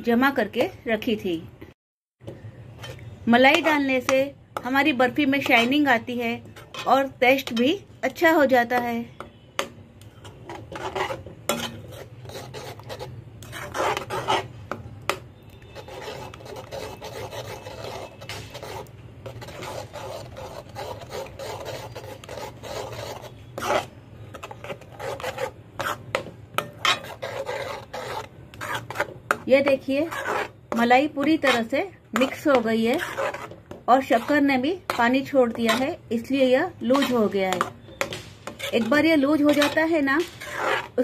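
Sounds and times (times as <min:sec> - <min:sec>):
metal spoon scraping a pot: 0:02.7 - 0:41.0.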